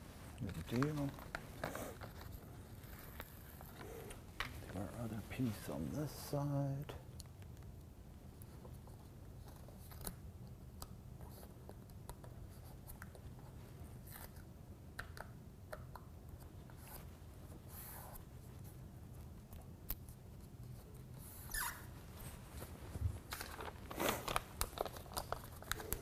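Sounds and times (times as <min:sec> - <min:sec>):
faint rustling and light clicks: 0:00.0 - 0:06.3, 0:07.0 - 0:26.0
low steady hum: 0:00.0 - 0:26.0.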